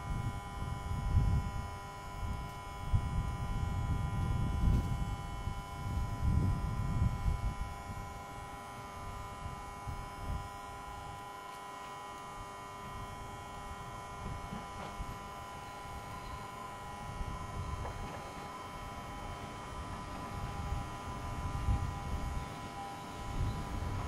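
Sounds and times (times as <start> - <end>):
wind buffeting microphone: 0.0 - 11.2, 12.8 - 24.0
steady hum of held tones: 0.0 - 24.0.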